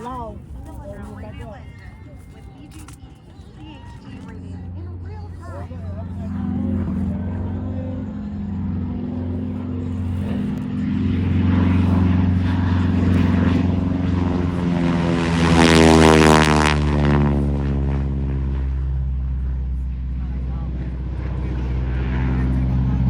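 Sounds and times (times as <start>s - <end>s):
airplane engine drone passing overhead: 0.0s - 23.0s.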